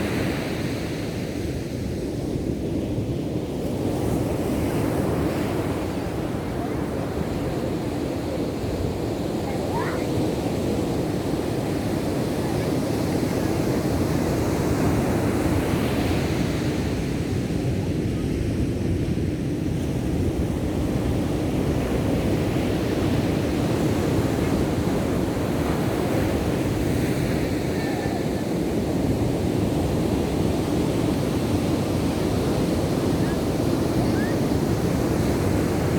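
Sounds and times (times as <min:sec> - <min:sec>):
ocean surf breaking: 0:03.6 - 0:17.7, 0:21.0 - 0:35.9.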